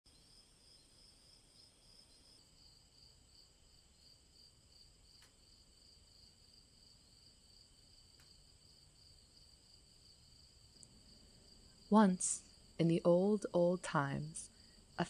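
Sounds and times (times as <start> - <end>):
crickets chirping: 0.1 - 15.0.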